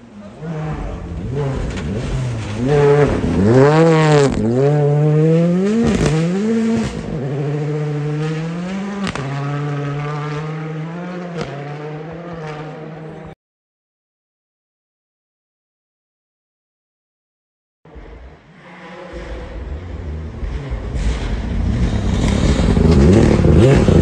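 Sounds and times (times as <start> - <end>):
rally car engine revving: 0.0 - 13.4, 17.9 - 24.0.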